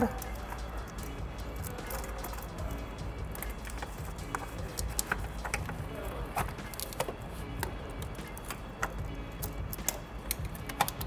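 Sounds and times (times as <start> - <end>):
plastic parts clicking and tapping: 0.0 - 11.0
quiet background music: 0.0 - 11.0.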